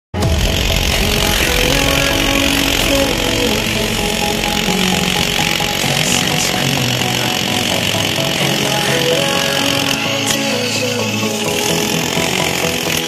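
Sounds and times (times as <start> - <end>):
demolition hammer pounding concrete: 0.1 - 13.0.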